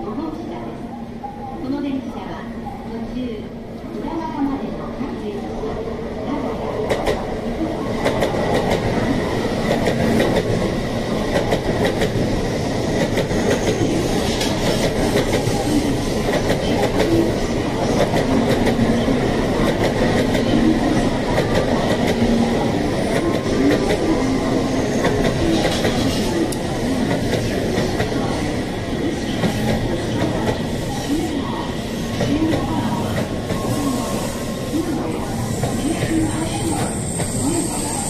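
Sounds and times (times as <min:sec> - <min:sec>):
train wheels rumbling on rails: 0:06.6 - 0:38.0.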